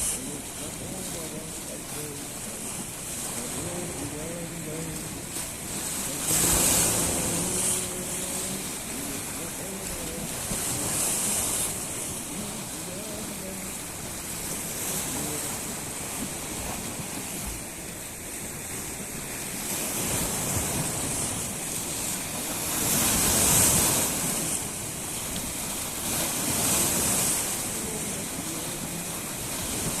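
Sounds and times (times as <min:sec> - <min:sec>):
sea waves washing onto shore: 0:00.0 - 0:30.0.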